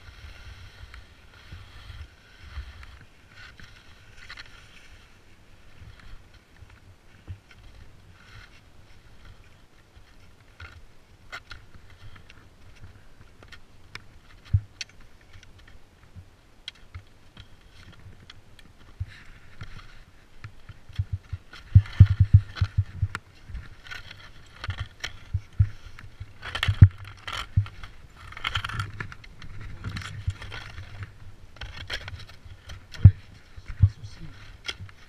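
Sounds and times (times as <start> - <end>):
skis scraping on hard snow: 0.0 - 15.7, 17.4 - 35.0.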